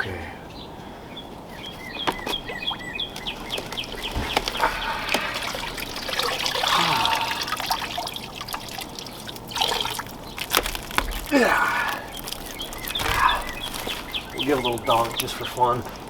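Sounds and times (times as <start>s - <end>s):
birds chirping: 0.0s - 16.0s
water sloshing and trickling: 1.5s - 16.0s.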